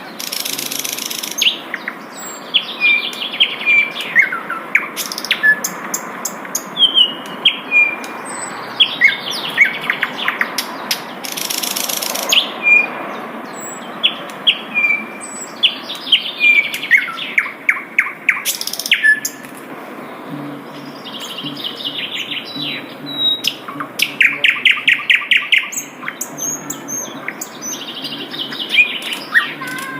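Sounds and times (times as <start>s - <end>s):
background hiss: 0.0s - 29.9s
bird singing chirps and trills: 0.0s - 29.9s.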